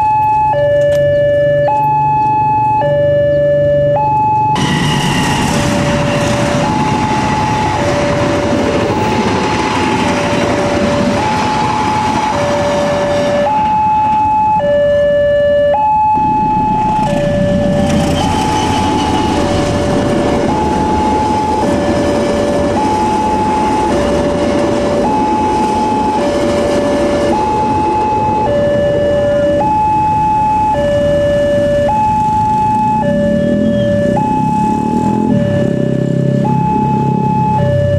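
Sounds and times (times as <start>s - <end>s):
two-tone level crossing alarm: 0.0s - 37.9s
passenger train rumbling past: 4.3s - 14.6s, 16.1s - 37.9s.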